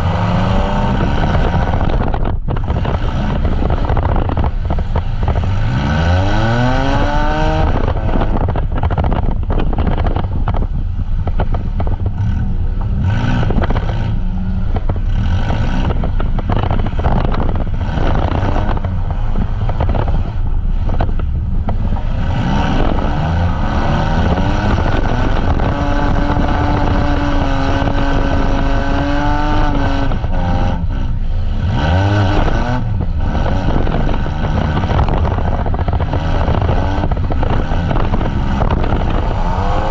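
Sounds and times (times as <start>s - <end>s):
engines revving hard: 0.0s - 10.6s, 11.9s - 39.9s
rumble of running engines: 0.0s - 39.9s.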